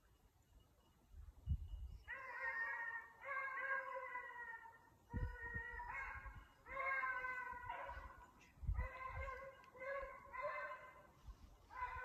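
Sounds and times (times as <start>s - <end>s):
hound baying: 2.1s - 12.0s.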